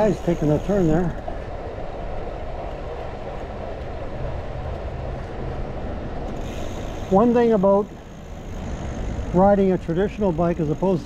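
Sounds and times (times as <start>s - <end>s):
bike tyres rolling on asphalt: 0.0s - 11.0s
wind rumbling on microphone: 0.0s - 11.0s.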